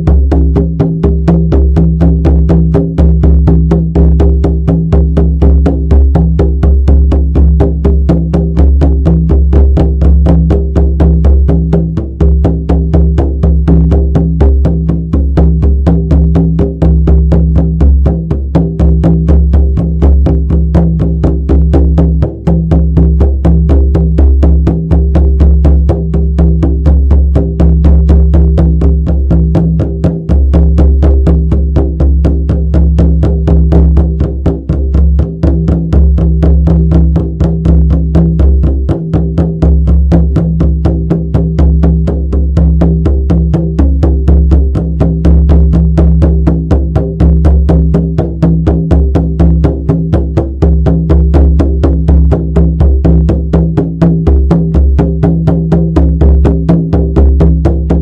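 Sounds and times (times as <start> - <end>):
frame drum beaten in fast rhythm: 0.0 - 58.0.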